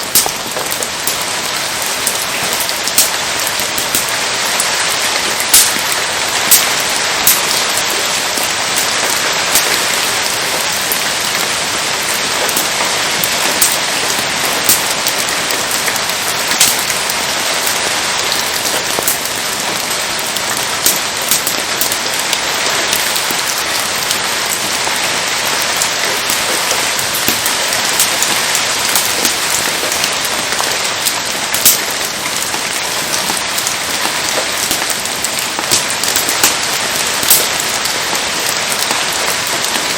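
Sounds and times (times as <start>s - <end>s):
steady rain: 0.0s - 39.9s
wood fire popping and crackling: 0.0s - 39.9s.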